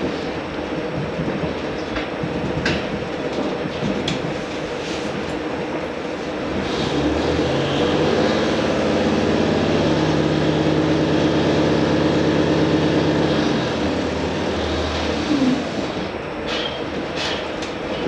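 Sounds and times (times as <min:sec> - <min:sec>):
railcar engine hum: 0:00.0 - 0:18.0
train wheels rumbling: 0:00.0 - 0:18.0.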